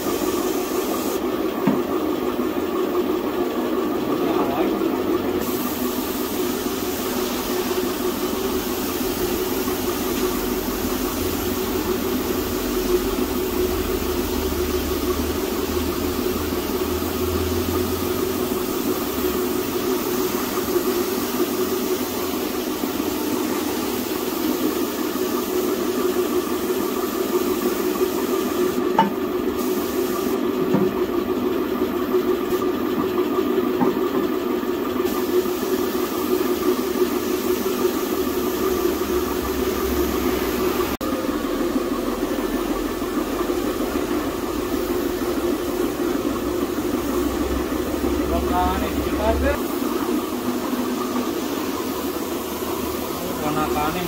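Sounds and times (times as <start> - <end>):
paint spray gun hissing: 0.0 - 1.4, 5.4 - 30.5, 34.9 - 54.0
air compressor humming: 0.0 - 54.0.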